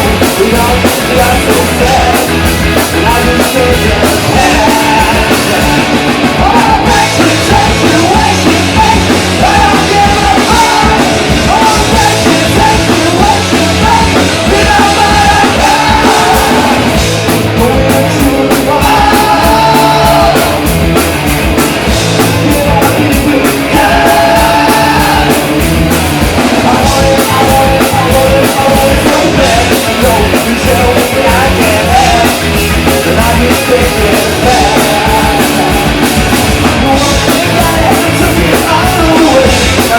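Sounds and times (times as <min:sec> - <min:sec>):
person singing lead vocal: 0:00.0 - 0:39.9
punk rock band playing live: 0:00.0 - 0:39.9.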